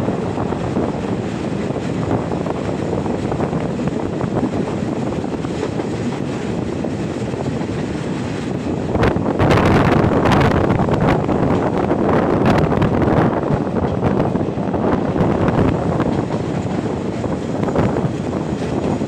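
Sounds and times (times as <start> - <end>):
train wheels rumbling on rails: 0.0 - 19.0
wind rushing past microphone: 0.0 - 19.0.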